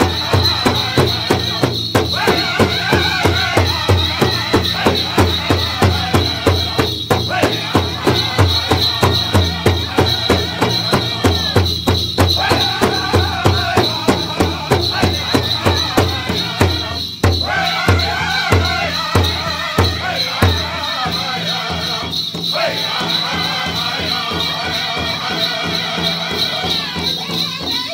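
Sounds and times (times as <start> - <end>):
group singing: 0.0 - 27.9
steady drumbeat: 0.0 - 27.9.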